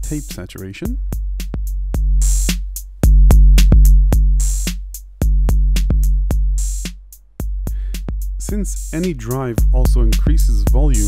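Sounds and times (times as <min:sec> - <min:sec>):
ticking hi-hats: 0:00.0 - 0:11.0
deep booming kick drum: 0:00.9 - 0:08.9, 0:09.6 - 0:11.0.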